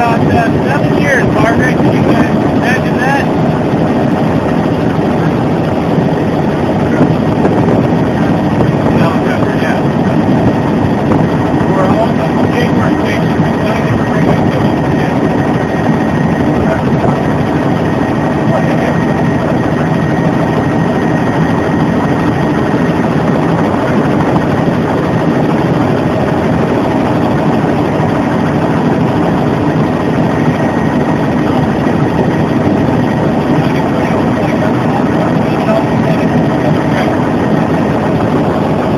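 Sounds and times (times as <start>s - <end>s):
faint high whine: 0.0s - 38.9s
helicopter rotor and engine rumble: 0.0s - 38.9s.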